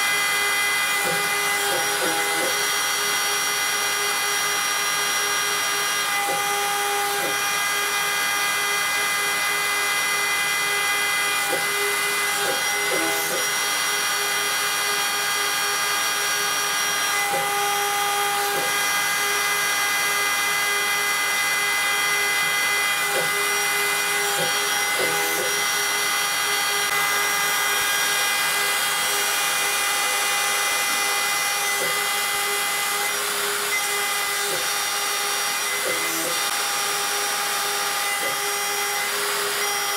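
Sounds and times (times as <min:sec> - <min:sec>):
end mill cutting aluminium: 0:00.0 - 0:39.9
router spindle high whine: 0:00.0 - 0:39.9.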